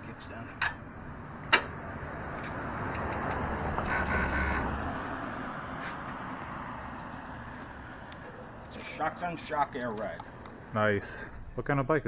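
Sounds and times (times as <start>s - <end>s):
vehicle passing by: 0.9s - 10.9s.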